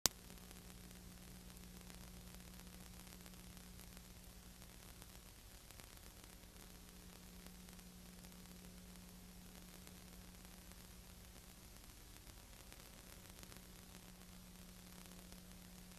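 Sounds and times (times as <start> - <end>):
steady hiss: 0.1 - 15.9.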